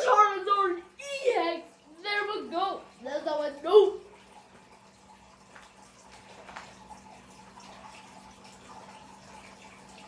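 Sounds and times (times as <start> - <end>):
low hum and room hiss: 0.0 - 10.0.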